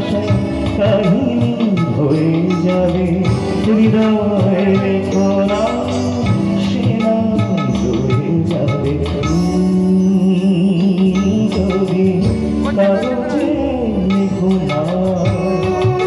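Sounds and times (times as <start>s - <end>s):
bass guitar: 0.0s - 16.0s
electric guitar: 0.0s - 16.0s
keyboards: 0.0s - 16.0s
man singing through a pa: 0.0s - 16.0s
percussion beat: 0.0s - 16.0s.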